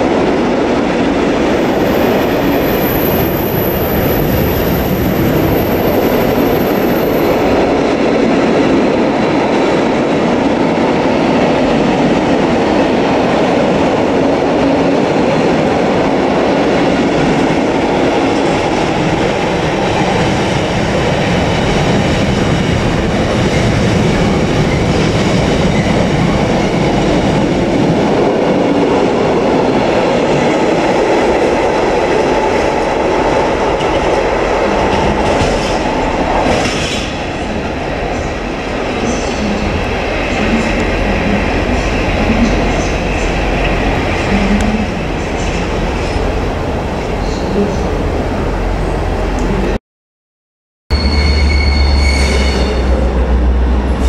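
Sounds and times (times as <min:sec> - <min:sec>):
freight train rumbling past: 0:00.0 - 0:49.8, 0:50.9 - 0:54.0.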